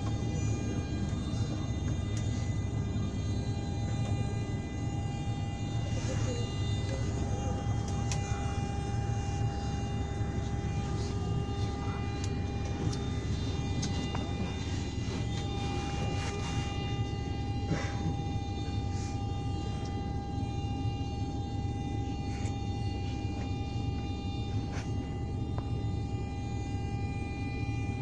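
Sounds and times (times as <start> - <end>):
engine rumble with whining: 0.0 - 28.0.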